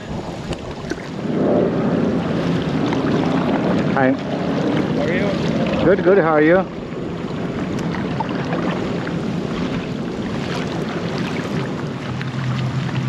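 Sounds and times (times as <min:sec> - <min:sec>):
wind and water noise: 0:00.0 - 0:13.0
light splashes and ticks: 0:00.4 - 0:01.2, 0:02.1 - 0:13.0.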